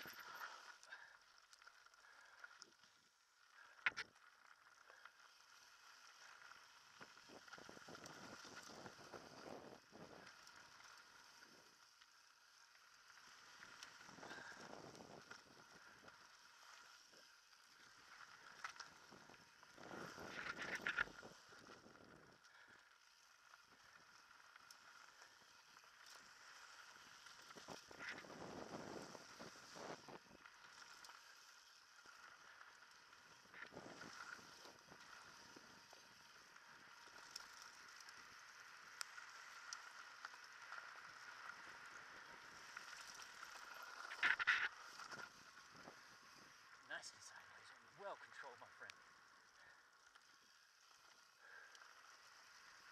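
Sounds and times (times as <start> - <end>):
bike rattling: 0.0 - 46.9
bike tyres rolling over dirt: 0.0 - 52.9.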